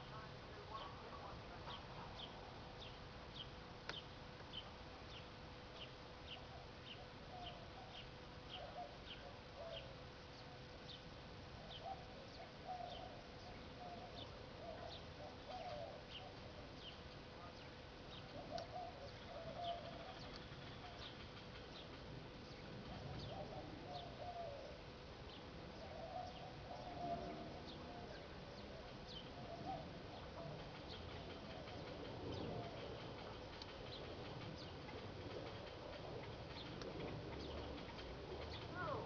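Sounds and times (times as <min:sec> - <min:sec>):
faint steady hum: 0:00.0 - 0:39.0
lower bird calls: 0:00.0 - 0:39.0.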